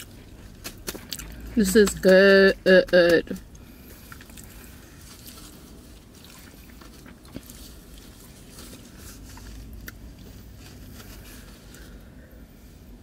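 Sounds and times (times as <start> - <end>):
person chewing food: 0.0 - 2.1, 2.7 - 12.0
low steady rumble: 0.0 - 13.0.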